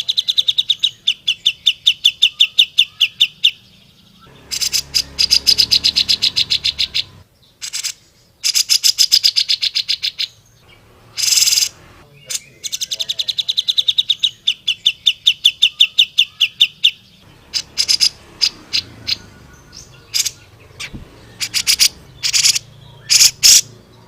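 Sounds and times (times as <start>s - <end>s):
bulbul singing: 0.0s - 24.0s.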